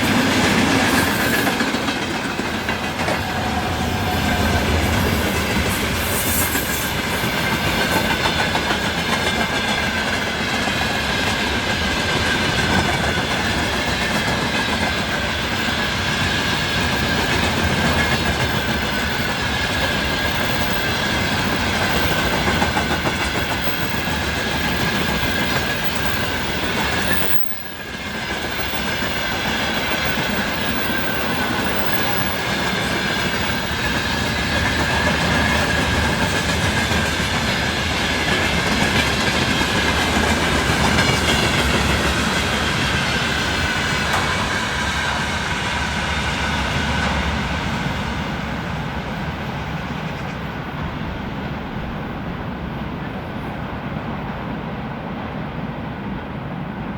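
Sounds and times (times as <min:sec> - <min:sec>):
train wheels clattering: 0:00.0 - 0:51.8
electric train whine: 0:00.0 - 0:56.9.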